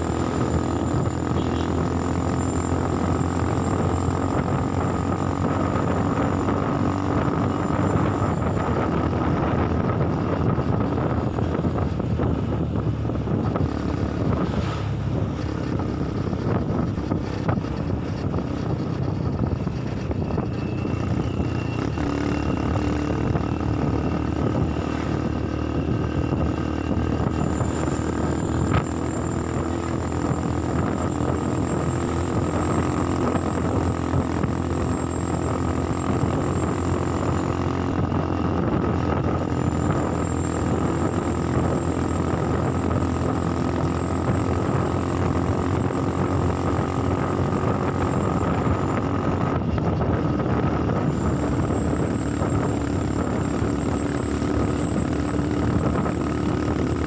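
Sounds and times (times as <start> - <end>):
motorcycle engine drone: 0.0 - 57.0
road and wind rush: 0.0 - 57.0.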